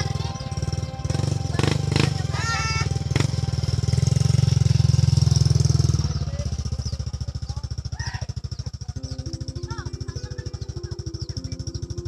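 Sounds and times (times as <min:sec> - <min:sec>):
small motorcycle engine labouring: 0:00.0 - 0:12.0.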